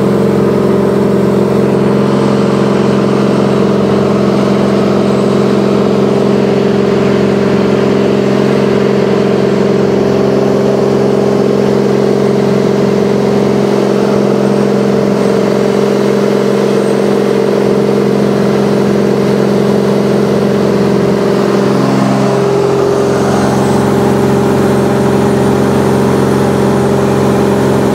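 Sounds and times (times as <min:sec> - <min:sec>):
propeller plane engine in cabin: 0:00.0 - 0:27.9.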